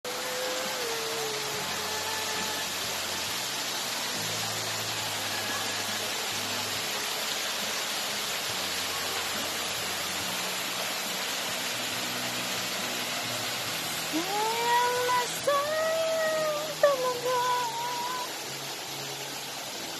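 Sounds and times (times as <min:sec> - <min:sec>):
flowing spring water: 0:00.0 - 0:19.9.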